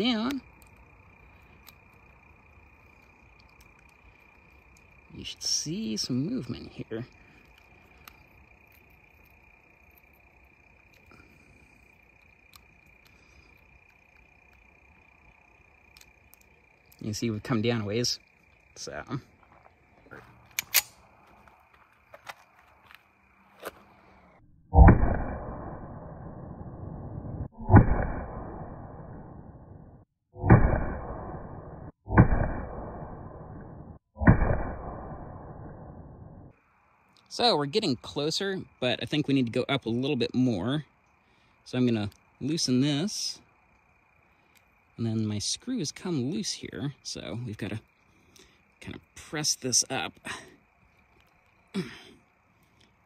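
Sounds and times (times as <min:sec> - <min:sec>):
faint high insect trill: 0:00.0 - 0:24.4, 0:34.8 - 0:53.0.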